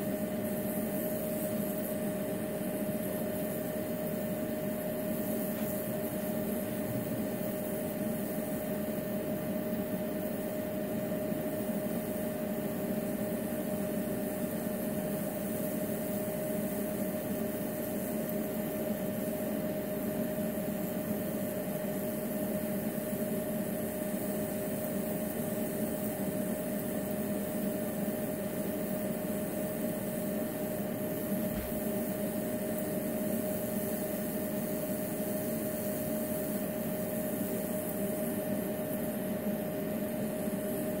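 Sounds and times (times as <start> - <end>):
ultrasonic device humming: 0.0 - 41.0.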